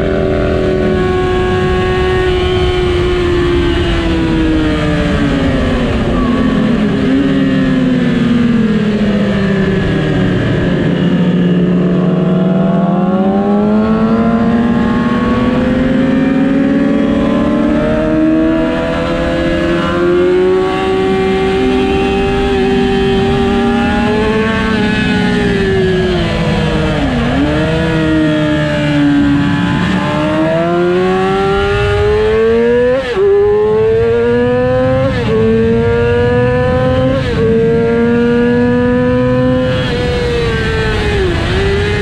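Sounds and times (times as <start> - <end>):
motorcycle engine running hard: 0.0 - 42.0.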